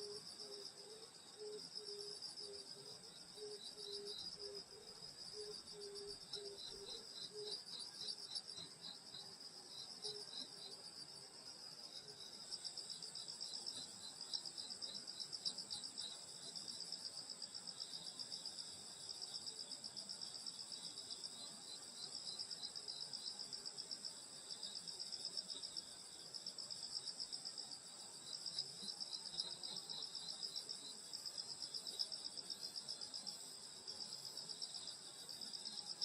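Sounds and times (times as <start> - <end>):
cricket chirping: 0.0 - 36.0.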